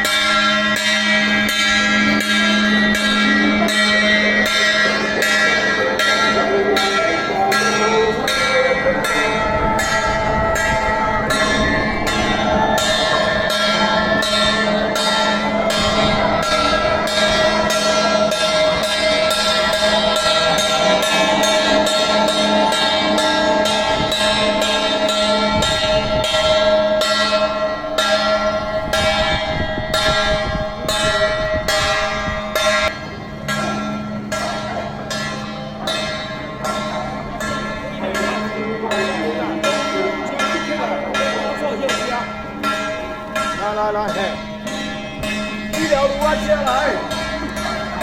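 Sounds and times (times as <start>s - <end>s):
bell ringing rhythmically: 0.0s - 48.0s.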